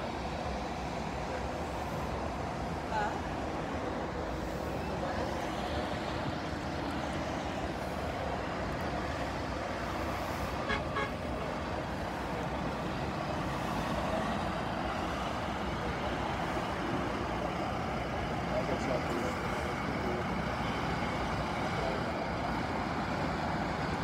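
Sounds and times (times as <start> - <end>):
heavy vehicles rumbling: 0.0 - 24.0.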